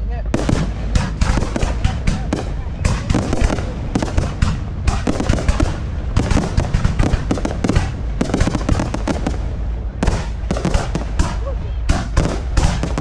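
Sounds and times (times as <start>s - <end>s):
low rumble: 0.0s - 13.0s
fireworks booming and crackling: 0.2s - 13.0s.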